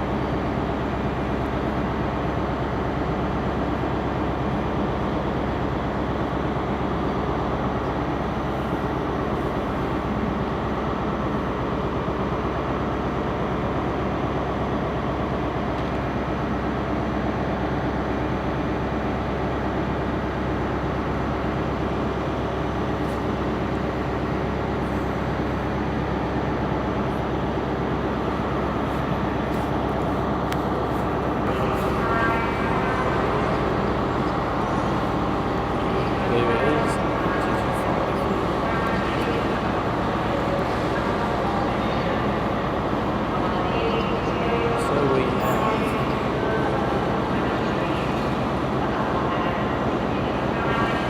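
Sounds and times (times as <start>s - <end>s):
diesel train droning: 0.0s - 51.0s.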